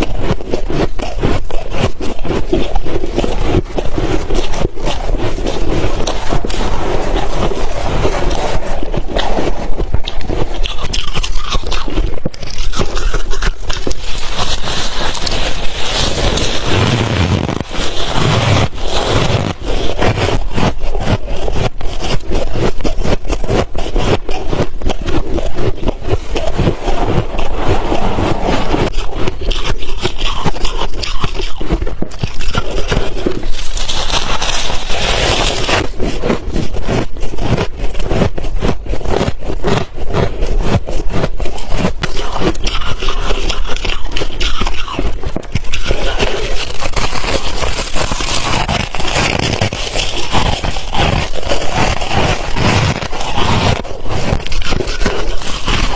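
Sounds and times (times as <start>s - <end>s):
crunching and chewing ice: 0.0s - 55.9s.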